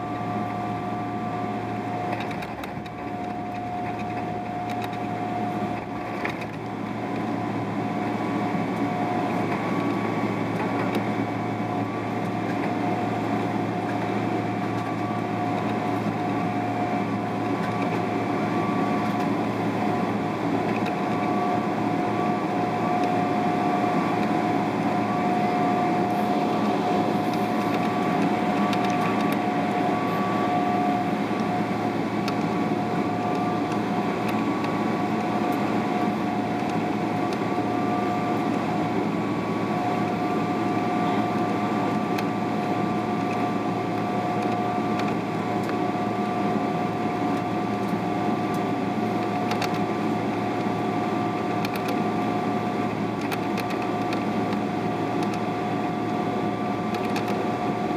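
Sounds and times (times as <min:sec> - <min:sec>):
aircraft cabin rushing hum: 0:00.0 - 0:57.9
jet engine whine: 0:00.0 - 0:57.9.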